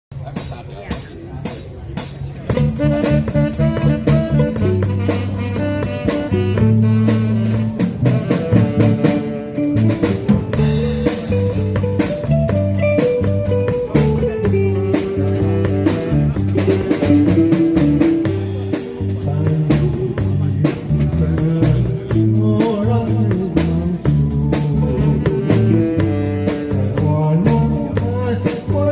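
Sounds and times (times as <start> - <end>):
bass line: 0.1 - 28.9
drum kit beat: 0.1 - 28.9
guitar melody: 2.5 - 28.9.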